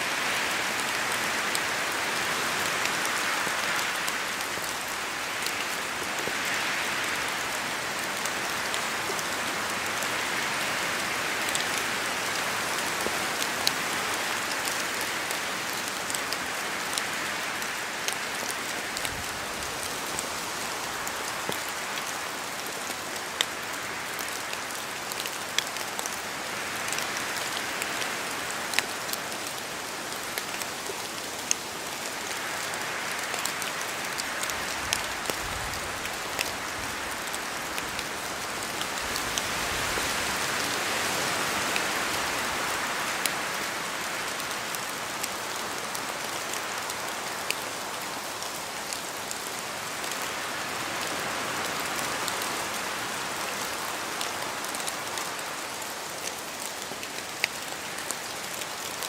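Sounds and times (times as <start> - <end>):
steady rain in forest: 0.0 - 59.0.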